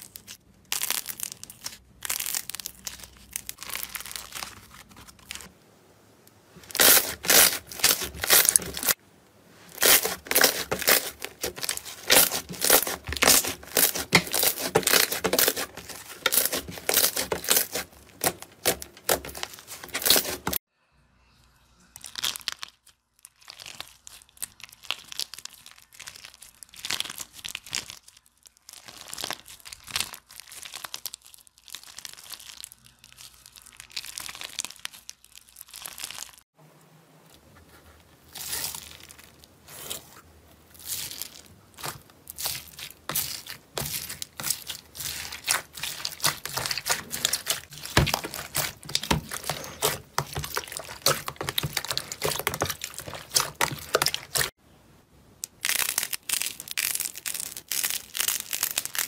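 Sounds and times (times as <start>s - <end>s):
slime crackling and popping: 0.0s - 5.5s, 6.6s - 9.0s, 9.7s - 20.6s, 22.0s - 36.4s, 40.7s - 54.5s, 55.4s - 59.0s.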